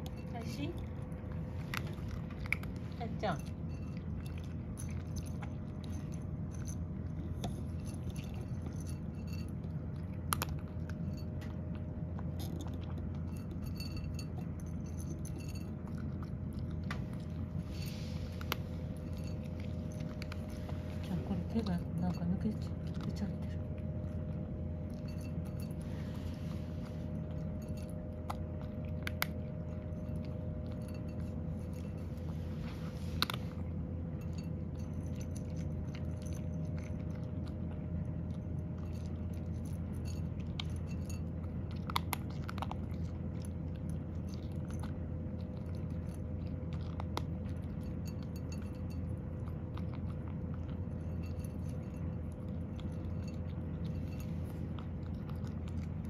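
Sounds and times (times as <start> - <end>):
cat crunching dry kibble: 0.0 - 56.0
steady low hum: 0.0 - 56.0.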